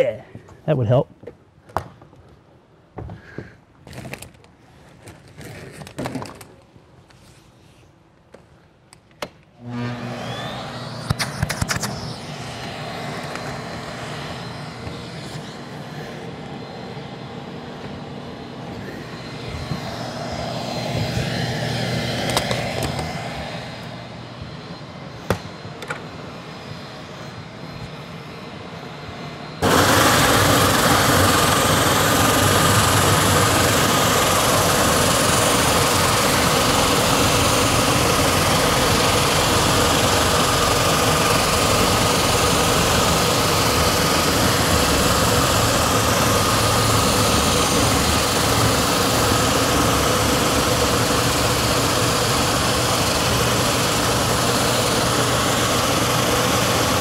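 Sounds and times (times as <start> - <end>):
floor sander whining: 9.6 - 57.0.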